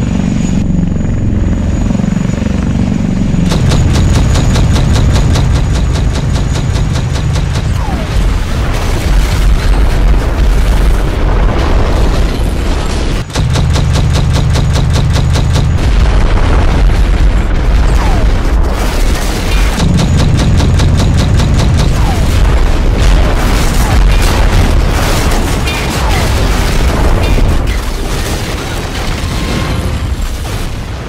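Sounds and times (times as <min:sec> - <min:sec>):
gunfire: 0:03.5 - 0:29.9
explosions: 0:03.5 - 0:31.0.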